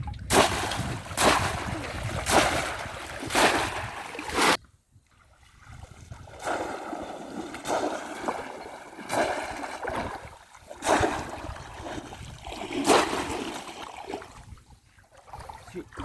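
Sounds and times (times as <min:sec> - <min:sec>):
water sloshing and trickling: 0:00.0 - 0:16.0
loud splashes in shallow water: 0:00.3 - 0:04.6, 0:05.8 - 0:14.4.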